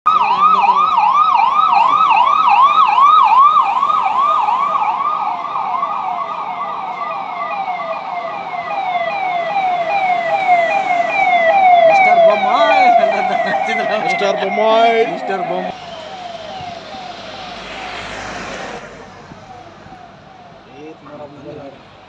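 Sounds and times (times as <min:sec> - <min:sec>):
electronic police siren: 0:00.1 - 0:21.7.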